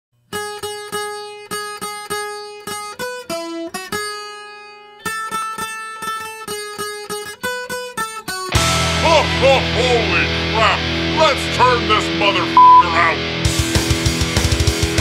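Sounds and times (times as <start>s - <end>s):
clean-toned guitar picking: 0.3s - 14.9s.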